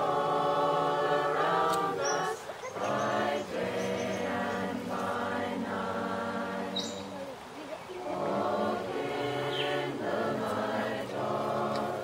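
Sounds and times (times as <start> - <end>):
choir singing a slow chant: 0.0 - 12.0.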